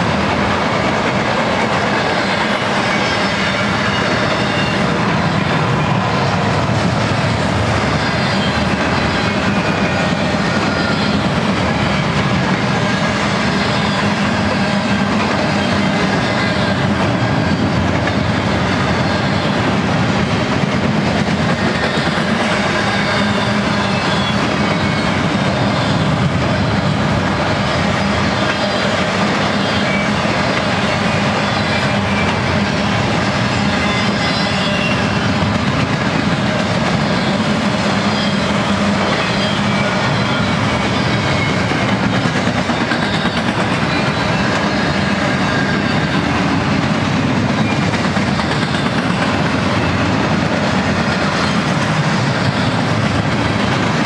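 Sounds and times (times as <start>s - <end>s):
steel wheels clattering on rail joints: 0.0s - 54.0s
train cars rumbling past: 0.0s - 54.0s.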